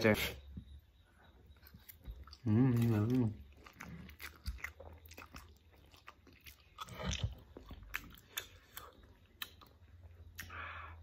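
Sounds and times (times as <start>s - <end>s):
person chewing: 1.4s - 11.0s.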